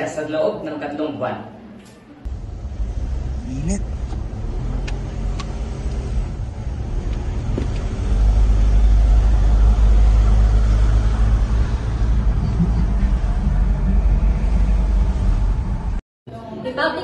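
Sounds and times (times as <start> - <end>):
car road and engine rumble: 2.3 - 16.0.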